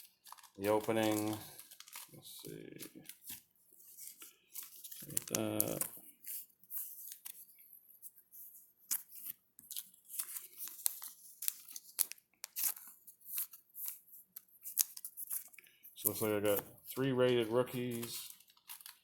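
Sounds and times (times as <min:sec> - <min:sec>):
cards rustling in plastic sleeves: 0:00.0 - 0:19.0.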